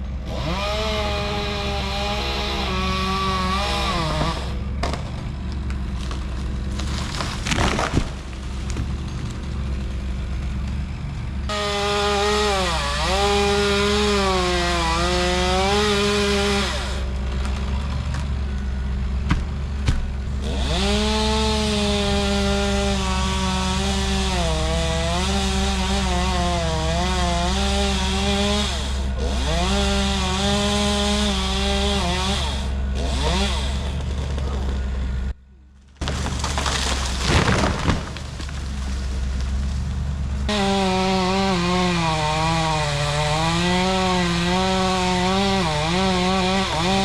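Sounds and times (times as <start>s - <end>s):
chainsaw cutting into tree: 0.0s - 35.3s, 36.0s - 47.0s.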